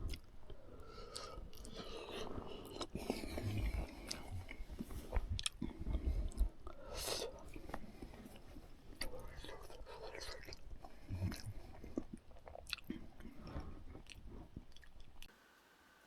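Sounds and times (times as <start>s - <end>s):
person chewing food: 0.0s - 15.3s.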